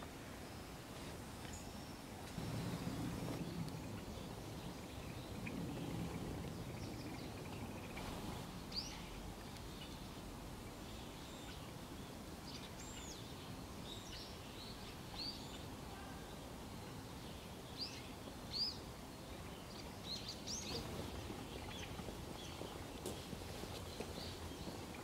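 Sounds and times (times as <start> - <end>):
background hiss: 0.0 - 25.0
songbirds chirping: 0.0 - 25.0.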